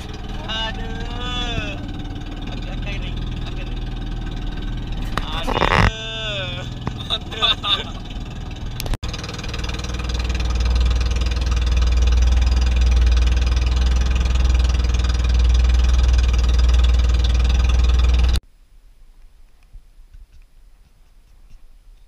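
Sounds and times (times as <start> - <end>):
boat engine droning: 0.0 - 18.4.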